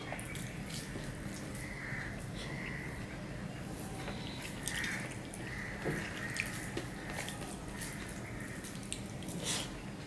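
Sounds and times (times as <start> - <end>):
soft wet squishing: 0.0 - 10.0.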